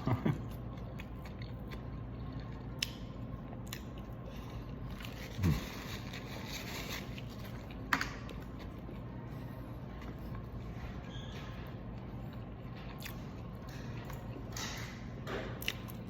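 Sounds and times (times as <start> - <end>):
close chewing and mouth sounds: 0.2 - 16.0.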